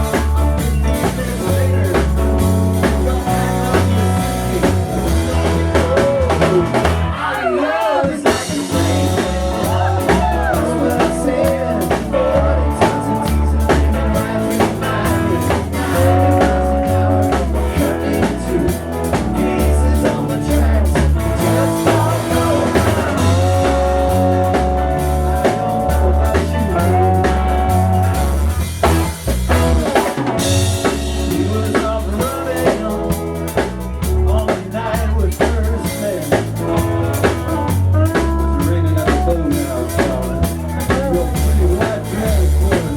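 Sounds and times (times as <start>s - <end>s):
blues-rock band music: 0.0s - 42.9s.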